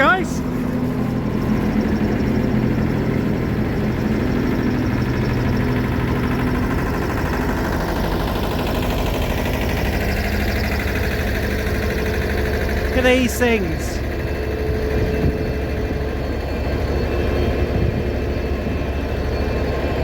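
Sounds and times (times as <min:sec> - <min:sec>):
diesel locomotive idling: 0:00.0 - 0:19.8.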